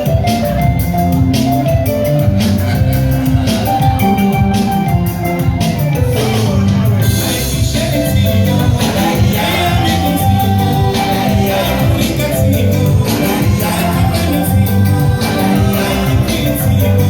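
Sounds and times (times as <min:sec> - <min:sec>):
lively music with drums: 0:00.0 - 0:17.0.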